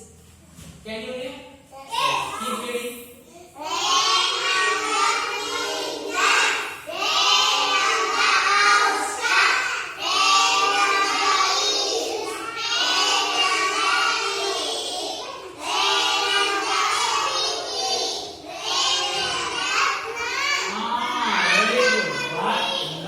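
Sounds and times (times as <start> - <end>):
children chanting together: 3.6 - 23.0.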